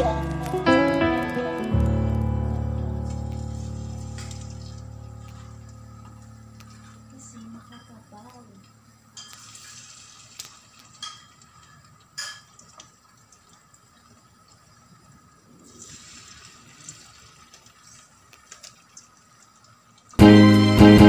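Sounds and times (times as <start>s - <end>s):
chicken sizzling in hot oil: 0.2s - 20.2s.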